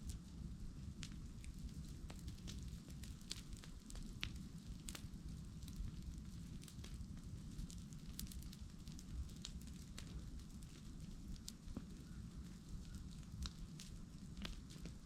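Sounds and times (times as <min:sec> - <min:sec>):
bonfire crackling: 0:00.0 - 0:15.0
fire low rumble: 0:00.0 - 0:15.0.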